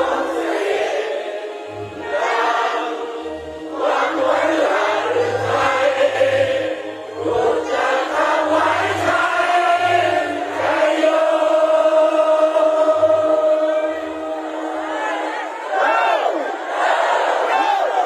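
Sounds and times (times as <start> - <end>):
crowd singing in unison: 0.0 - 18.0.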